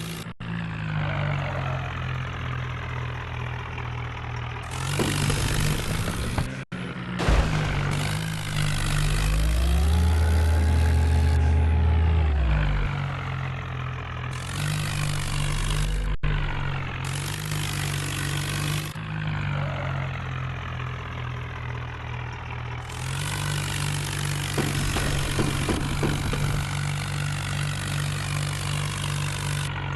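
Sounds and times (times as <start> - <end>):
tractor diesel engine revving: 0.0 - 29.9.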